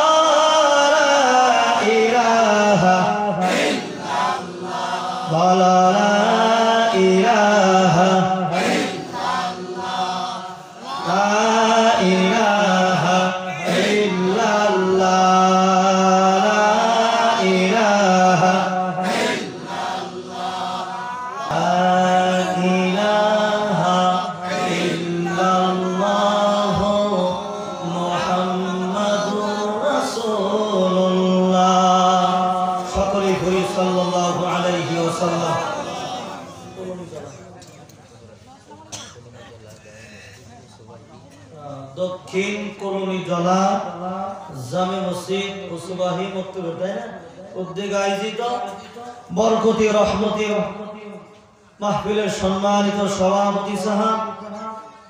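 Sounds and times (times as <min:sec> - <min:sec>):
man chanting over loudspeaker: 0:00.0 - 0:37.5, 0:41.6 - 0:55.0.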